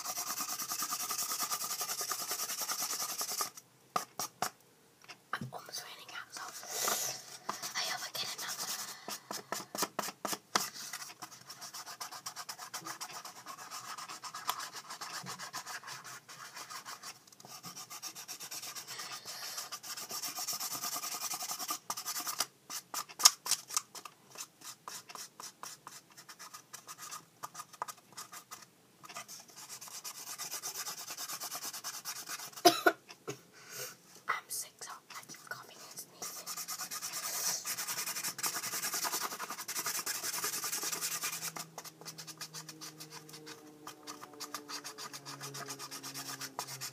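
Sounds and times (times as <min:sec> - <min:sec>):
marker scratching on cardboard: 0:00.0 - 0:04.6, 0:06.4 - 0:32.7, 0:35.9 - 0:46.9.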